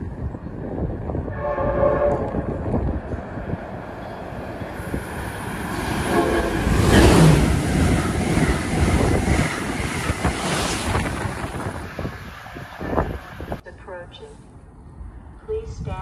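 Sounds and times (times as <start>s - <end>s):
train passing at speed: 0.0s - 13.6s.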